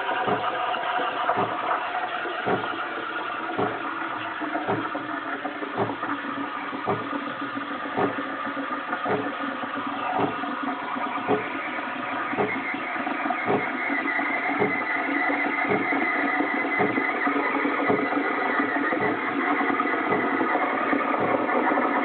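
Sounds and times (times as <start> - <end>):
espresso machine humming: 0.0 - 22.0.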